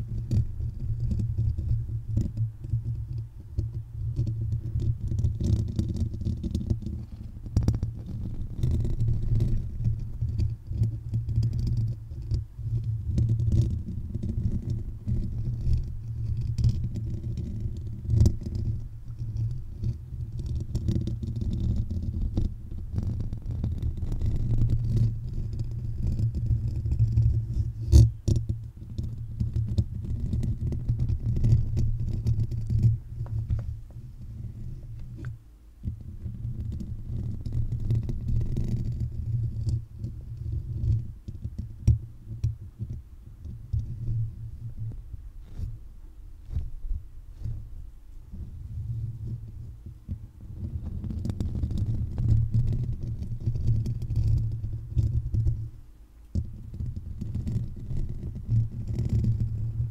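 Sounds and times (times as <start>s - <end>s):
fingers scratching microphone grille: 0.0s - 59.9s.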